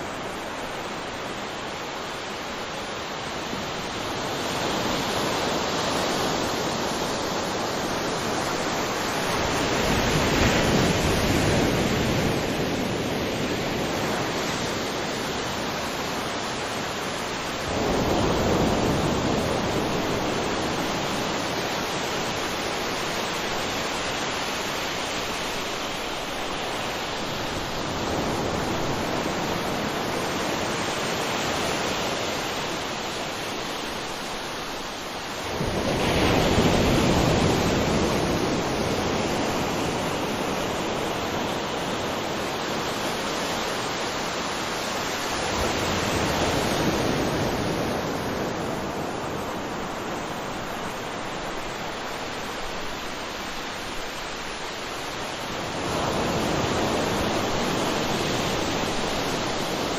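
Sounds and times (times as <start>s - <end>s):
ocean waves on beach: 0.0s - 59.9s.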